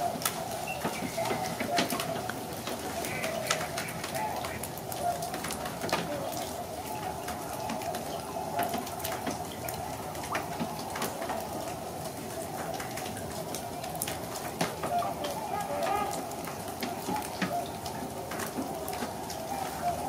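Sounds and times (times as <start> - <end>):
distant flock of swans calling: 0.0 - 20.0.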